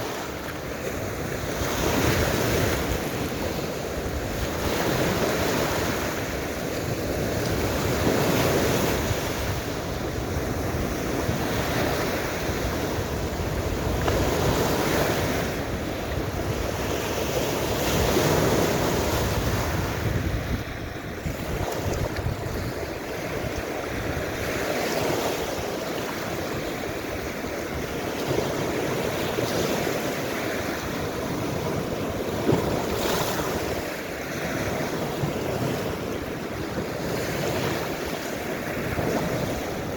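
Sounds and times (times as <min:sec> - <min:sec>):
waves breaking on shore: 0:00.0 - 0:39.9
wind buffeting microphone: 0:00.0 - 0:39.9.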